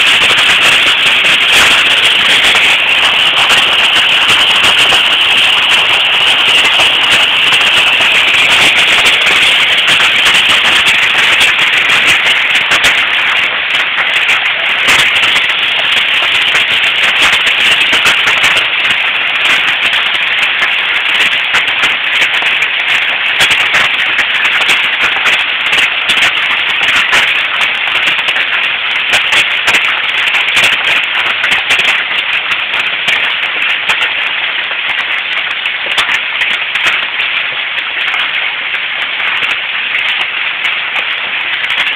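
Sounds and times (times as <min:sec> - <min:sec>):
hail pelting down: 0:00.0 - 0:41.9.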